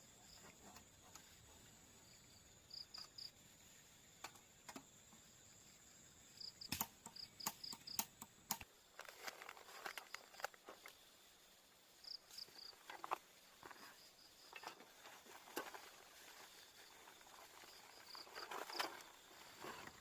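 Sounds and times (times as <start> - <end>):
faint insect chirping: 0.0 - 20.0.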